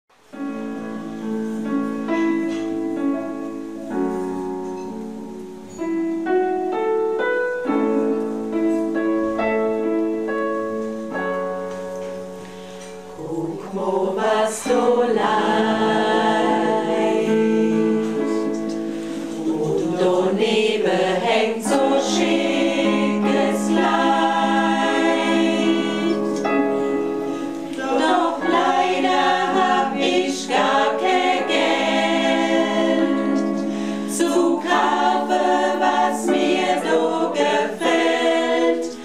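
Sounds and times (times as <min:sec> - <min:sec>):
music of held chords: 0:00.1 - 0:39.0.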